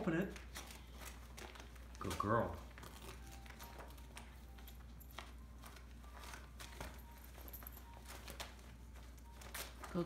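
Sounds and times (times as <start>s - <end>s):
wrapping paper crinkling and tearing: 0.0s - 10.0s.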